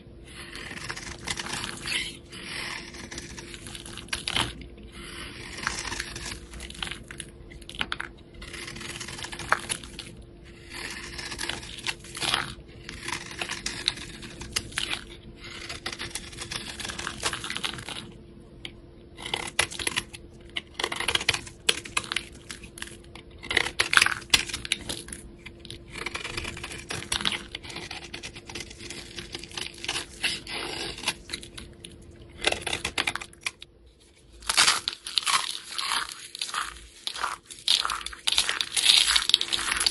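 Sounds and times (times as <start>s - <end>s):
blade scraping soap: 0.2s - 7.2s, 7.8s - 18.0s, 19.2s - 31.7s, 34.7s - 39.9s.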